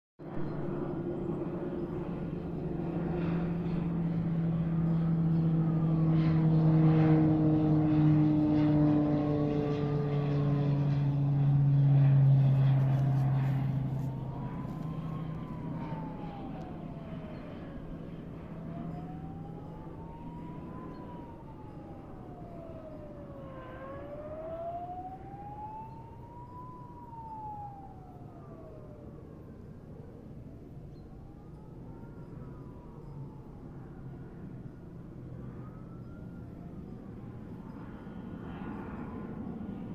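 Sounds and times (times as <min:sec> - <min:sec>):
aircraft engine drone: 0:00.2 - 0:39.9
higher-pitched siren: 0:00.2 - 0:39.9
emergency sirens wailing: 0:01.2 - 0:37.8.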